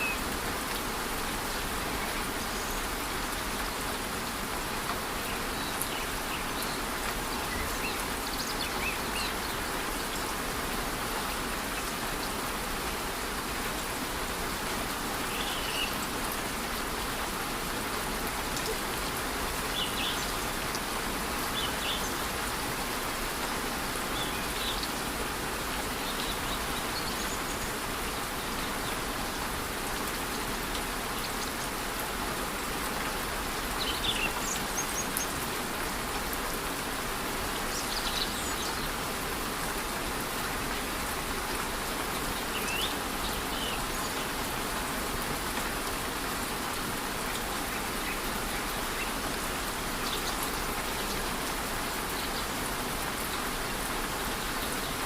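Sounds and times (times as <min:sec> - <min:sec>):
light rain: 0:00.0 - 0:55.0.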